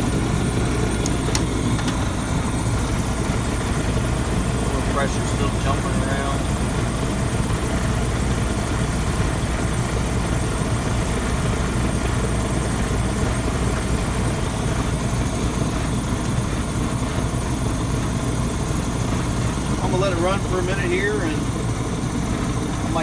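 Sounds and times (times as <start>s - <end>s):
burner blower and flame noise: 0.0s - 23.0s.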